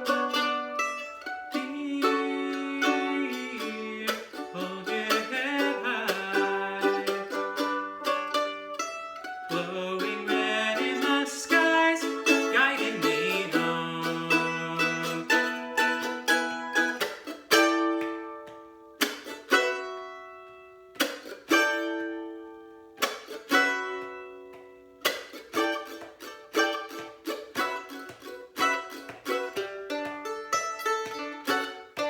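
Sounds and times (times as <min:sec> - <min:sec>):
plucked string instrument: 0:00.0 - 0:32.0.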